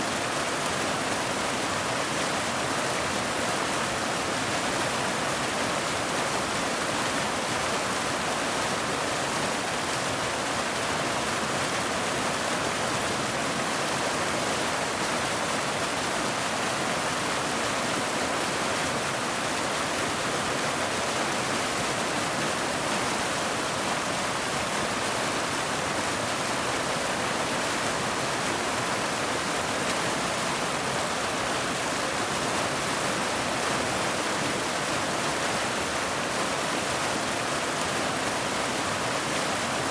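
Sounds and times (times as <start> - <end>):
dense rain hiss: 0.0 - 39.9.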